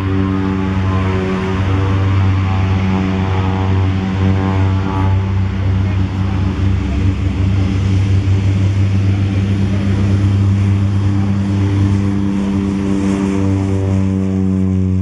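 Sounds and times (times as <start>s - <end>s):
turboprop propeller drone: 0.0s - 15.0s.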